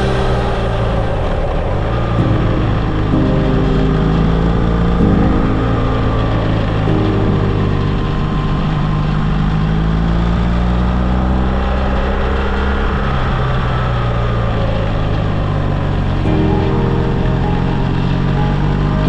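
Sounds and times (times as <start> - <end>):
wind and road noise: 0.0 - 16.3.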